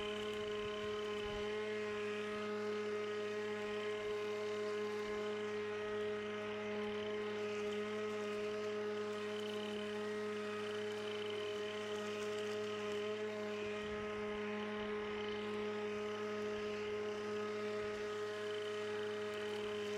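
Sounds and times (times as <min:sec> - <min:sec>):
electric lawnmower whine: 0:00.0 - 0:19.9.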